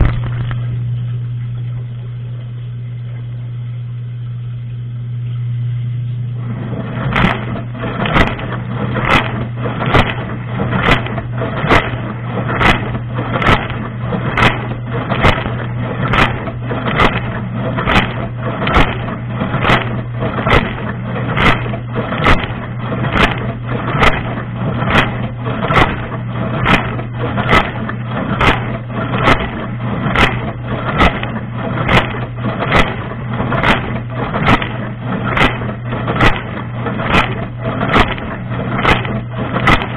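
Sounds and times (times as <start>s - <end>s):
dishwasher pump hum: 0.0s - 39.9s.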